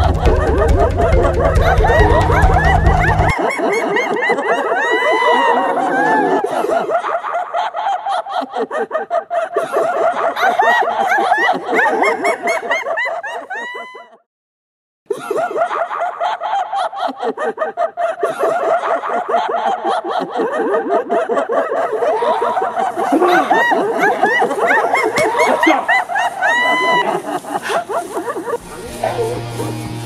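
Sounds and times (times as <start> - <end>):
voices snickering and cackling: 0.0 - 14.2, 15.3 - 30.0.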